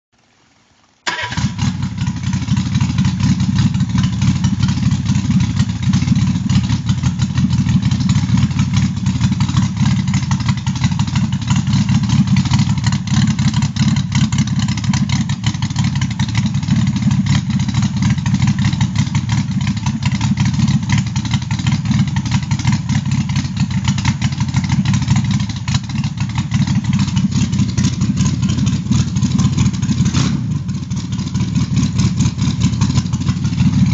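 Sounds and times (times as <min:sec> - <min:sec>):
four-cylinder engine running: 0:01.0 - 0:33.9.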